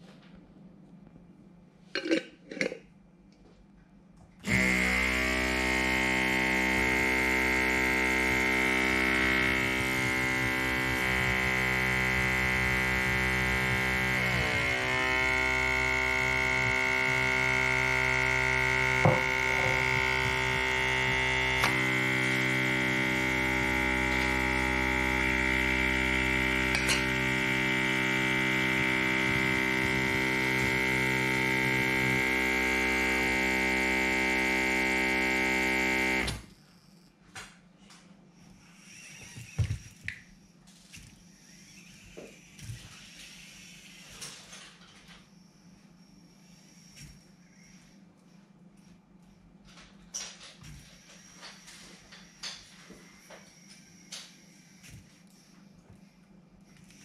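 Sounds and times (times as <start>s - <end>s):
electric air pump humming: 4.3s - 37.2s, 38.3s - 57.0s.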